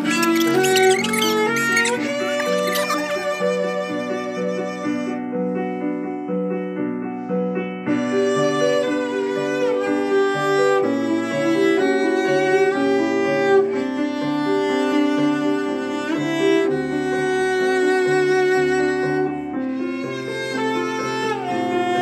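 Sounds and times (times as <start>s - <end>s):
instrumental music with violin: 0.0s - 22.0s.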